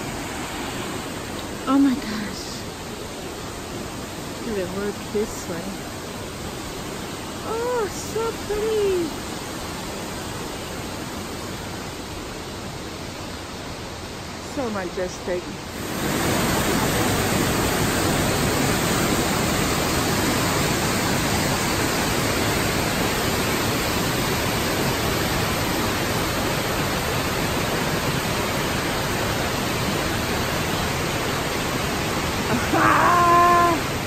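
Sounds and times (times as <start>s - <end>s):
mountain torrent rushing: 0.0s - 34.0s.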